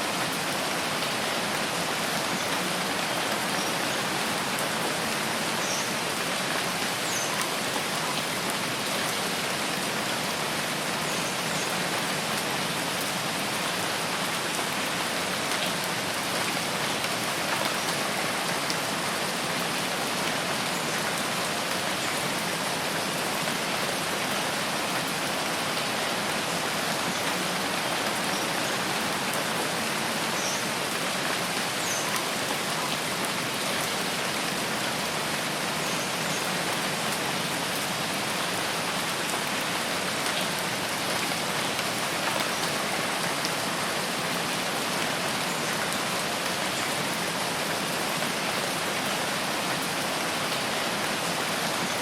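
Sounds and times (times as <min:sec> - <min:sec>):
steady rain on a forest: 0:00.0 - 0:52.0.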